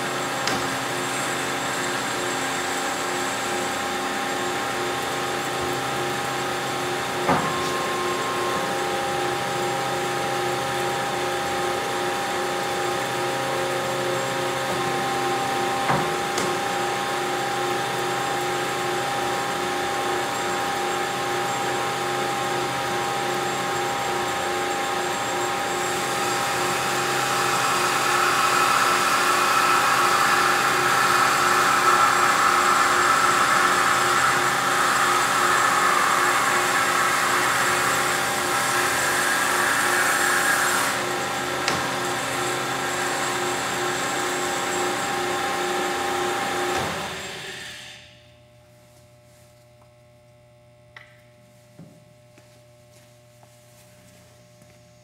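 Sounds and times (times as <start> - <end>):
bandsaw motor hum: 0.0 - 52.4.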